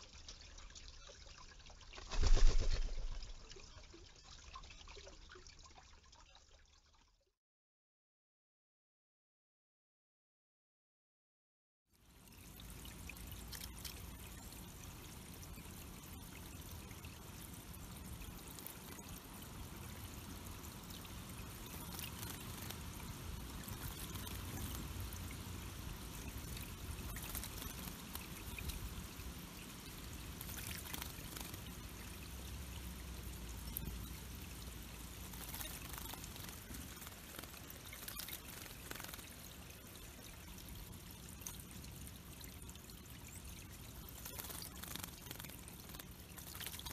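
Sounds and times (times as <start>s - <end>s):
water trickling over rocks: 0.0s - 7.3s, 12.0s - 46.9s.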